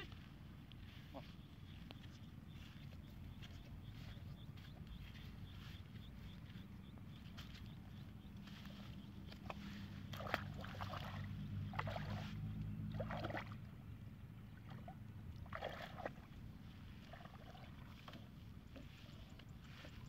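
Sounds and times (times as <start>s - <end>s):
feet wading through muddy water: 0.0s - 20.0s.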